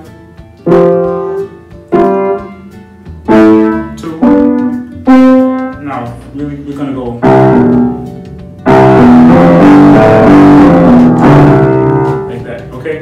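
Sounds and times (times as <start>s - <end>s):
piano notes: 0.0s - 13.0s.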